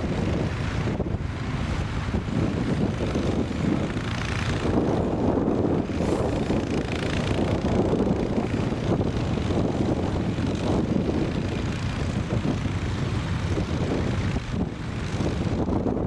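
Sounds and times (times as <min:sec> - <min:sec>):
engine droning: 0:00.0 - 0:16.0
wind buffeting microphone: 0:00.0 - 0:16.0.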